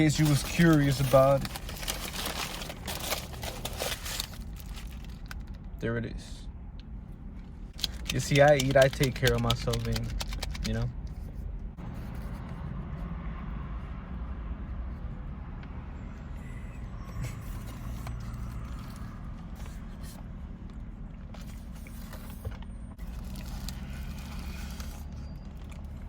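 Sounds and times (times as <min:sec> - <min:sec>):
vehicle rumble: 0:00.0 - 0:26.0.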